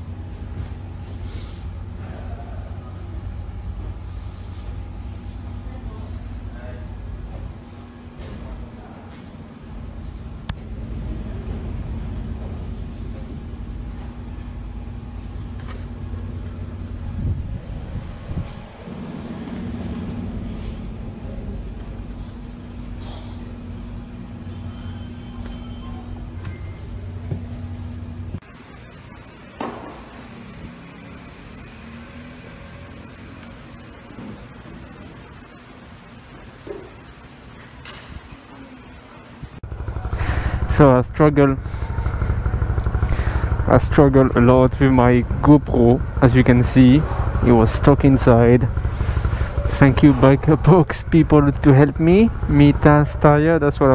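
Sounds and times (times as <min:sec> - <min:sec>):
vehicle engine running: 0:00.0 - 0:08.9, 0:09.6 - 0:53.9
low mechanical hum: 0:00.0 - 0:53.9.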